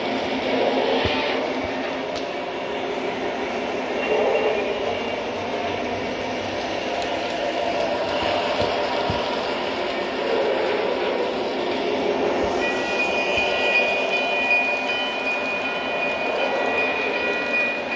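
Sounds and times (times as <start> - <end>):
model train rumbling on track: 0.0 - 17.9
rail joint clicks: 0.0 - 17.9.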